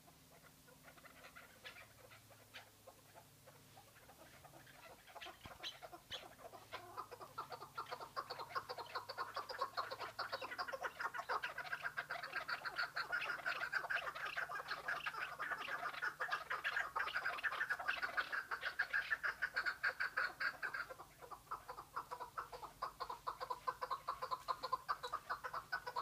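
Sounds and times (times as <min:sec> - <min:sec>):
partridge calling: 0:00.0 - 0:26.0.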